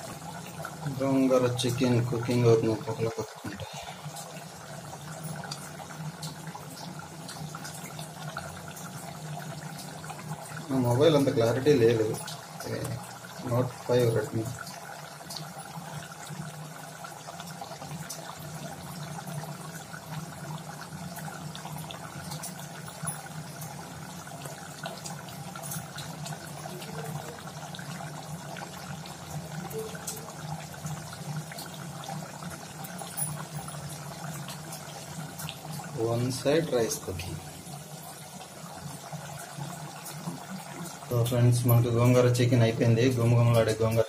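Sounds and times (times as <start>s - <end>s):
curry bubbling in a pot: 0.0s - 44.0s.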